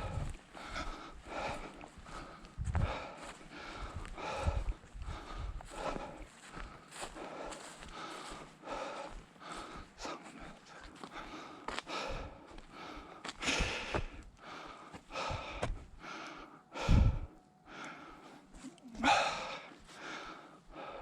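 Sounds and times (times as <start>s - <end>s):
footsteps on trail: 0.0s - 21.0s
heavy breathing: 0.0s - 21.0s.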